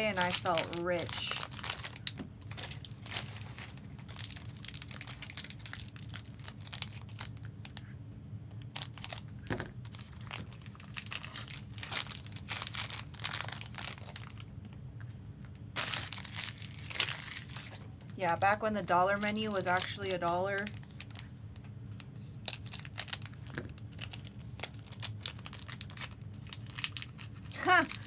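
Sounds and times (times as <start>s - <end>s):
foil wrappers crinkling and tearing: 0.0s - 7.9s, 8.5s - 14.5s, 15.8s - 21.4s, 22.0s - 28.0s.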